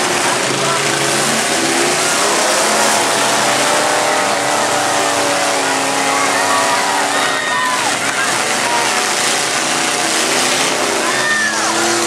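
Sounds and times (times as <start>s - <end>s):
car engines revving: 0.0s - 12.0s
loud steady din: 0.0s - 12.0s.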